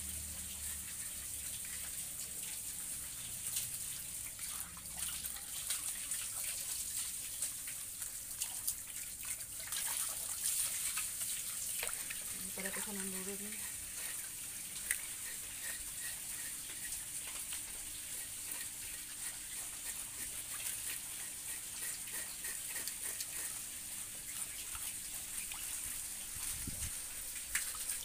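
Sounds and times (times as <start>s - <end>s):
water running from a hose: 0.0s - 28.0s.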